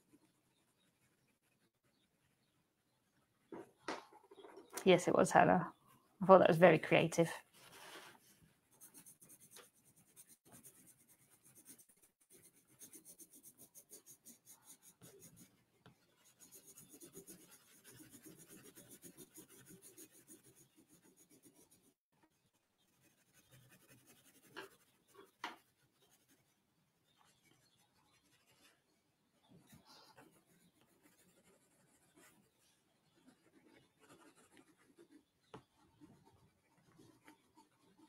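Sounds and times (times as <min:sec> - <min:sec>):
pencil scratching on paper: 0:00.1 - 0:02.5, 0:07.4 - 0:38.0.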